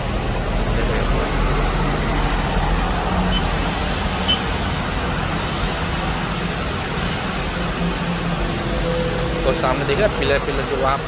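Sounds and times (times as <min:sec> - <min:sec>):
bus passing on wet road: 0:00.0 - 0:11.0
motorbike passing on wet road: 0:00.0 - 0:11.0.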